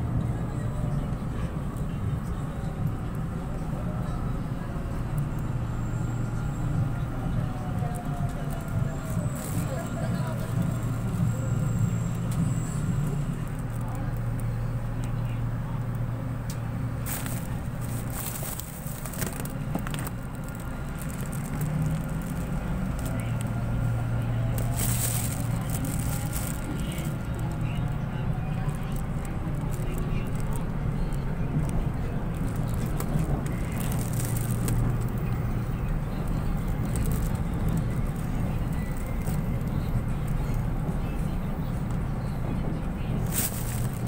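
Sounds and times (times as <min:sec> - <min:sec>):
low hum inside rail car: 0:00.0 - 0:44.0
train clicks and crackles: 0:00.0 - 0:44.0.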